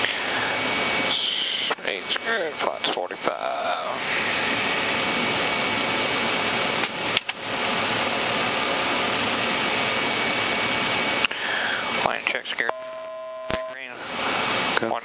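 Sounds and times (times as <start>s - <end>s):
faint high whine: 0.0s - 6.6s, 8.3s - 15.0s.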